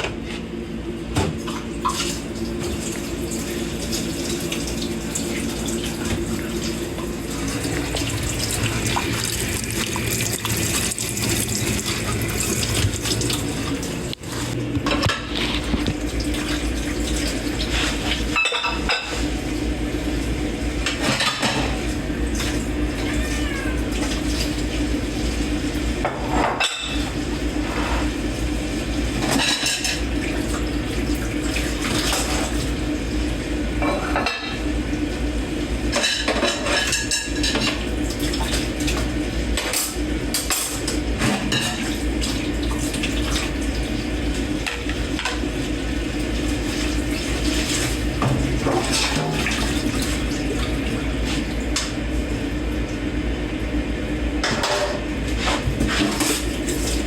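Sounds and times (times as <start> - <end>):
water rushing in sink: 1.2 - 57.0.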